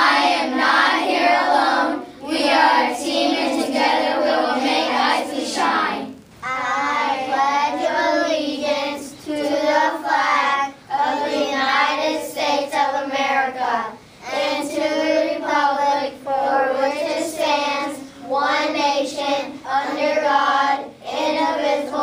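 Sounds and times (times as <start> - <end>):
children reciting in unison: 0.0 - 22.0.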